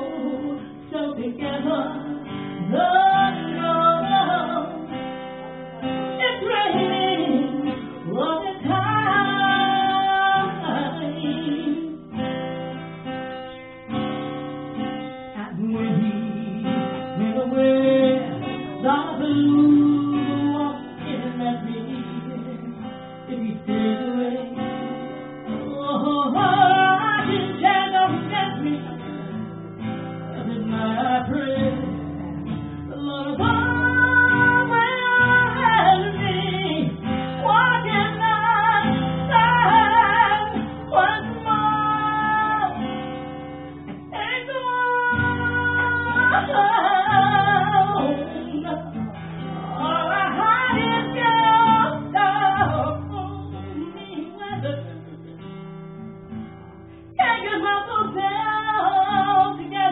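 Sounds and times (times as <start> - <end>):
woman singing slow blues: 0.0 - 55.6, 57.1 - 59.9
acoustic guitar: 0.0 - 59.9.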